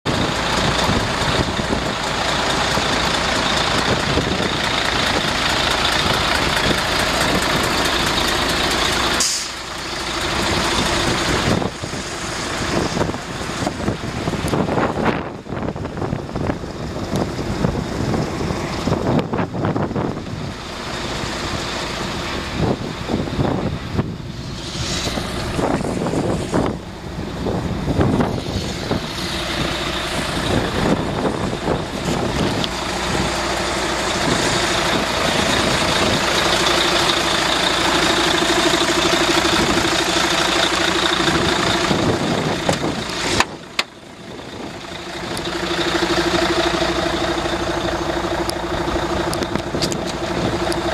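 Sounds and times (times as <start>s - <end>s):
diesel engine idling: 0.0s - 50.9s
wind noise on microphone: 0.1s - 38.0s, 41.0s - 47.8s, 48.5s - 50.9s
handling rumble: 0.1s - 50.9s.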